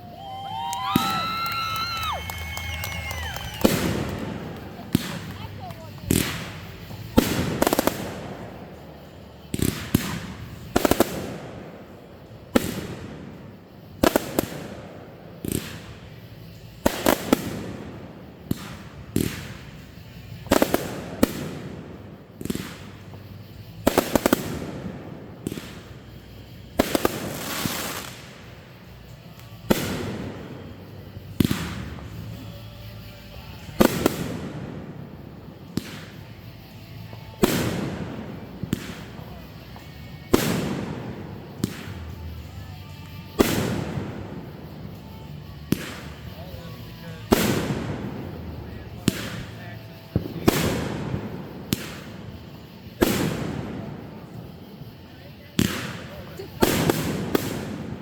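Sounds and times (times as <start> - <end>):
fireworks bursting with echoing bangs: 0.0 - 58.0.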